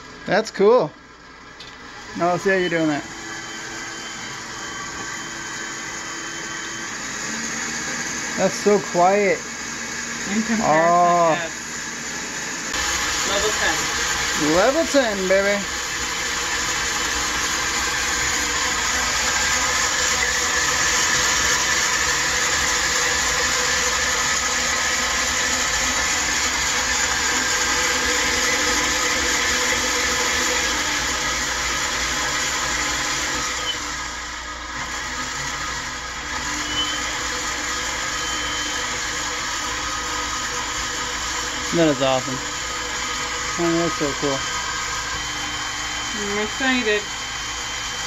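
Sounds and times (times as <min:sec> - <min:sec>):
stand mixer motor humming: 0:01.0 - 0:48.0.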